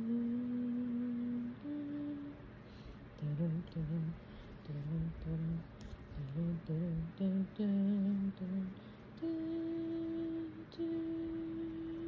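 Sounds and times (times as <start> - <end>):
person humming a tune: 0.0 - 2.4, 3.2 - 12.0.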